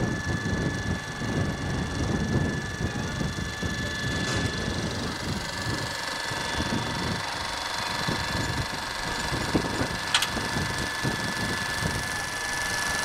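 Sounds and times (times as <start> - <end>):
film camera mechanical whir: 0.0 - 13.0.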